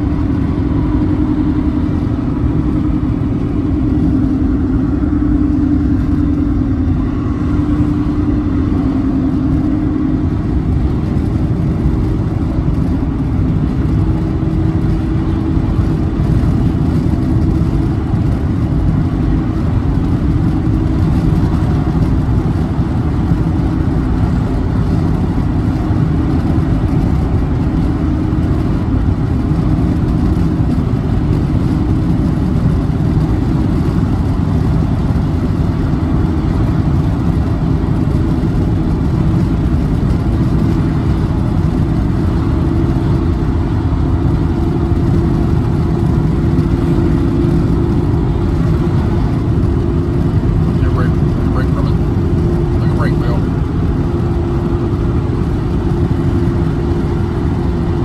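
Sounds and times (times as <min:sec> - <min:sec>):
car road noise drone: 0:00.0 - 0:58.0
constant low hum: 0:00.0 - 0:58.0.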